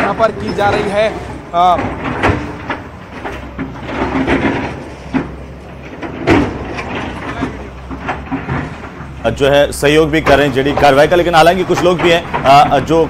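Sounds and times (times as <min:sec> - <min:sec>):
diesel engine running: 0:00.0 - 0:13.0
masonry breaking: 0:00.0 - 0:13.0.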